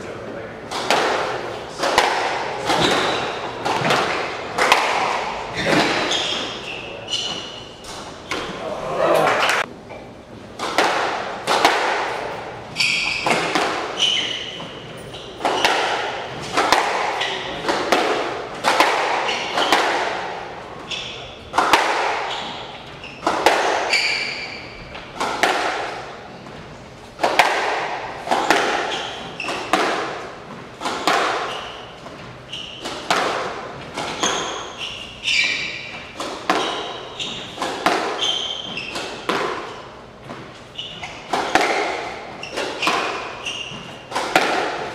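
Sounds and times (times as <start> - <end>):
squash ball hits echoing: 0.6 - 9.7, 10.5 - 44.9
shoes squeaking on court: 0.7 - 44.9.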